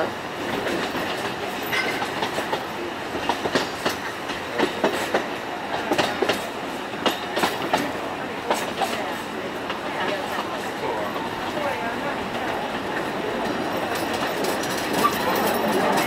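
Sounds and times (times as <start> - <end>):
train rumbling: 0.0 - 16.0
train wheels clacking over rail joints: 0.4 - 11.3, 12.2 - 16.0.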